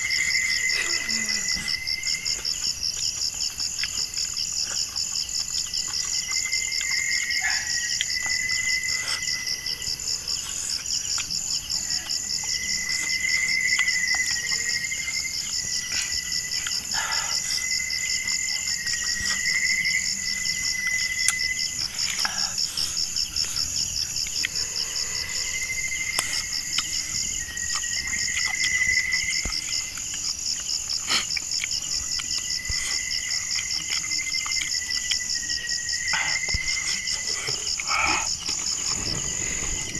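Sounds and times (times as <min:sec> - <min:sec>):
crickets trilling: 0:00.0 - 0:39.9
lower insect chirring: 0:00.0 - 0:39.9.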